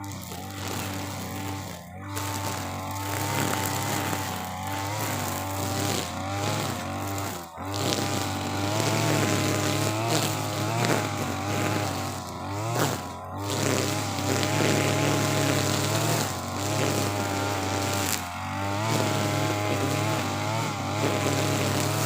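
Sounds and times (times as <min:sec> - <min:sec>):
brush cutter cutting grass: 0:00.0 - 0:22.0.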